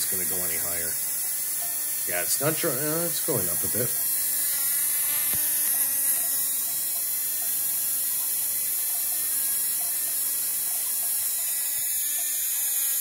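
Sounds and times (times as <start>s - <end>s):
spark gap buzzing: 0.0s - 13.0s.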